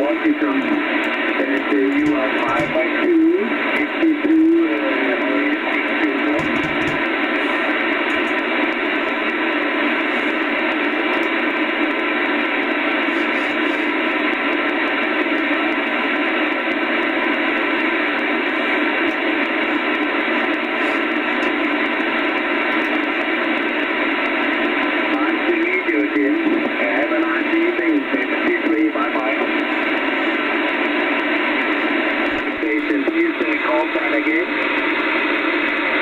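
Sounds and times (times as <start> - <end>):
faint steady tones: 0.0 - 36.0
radio static hiss: 0.0 - 36.0.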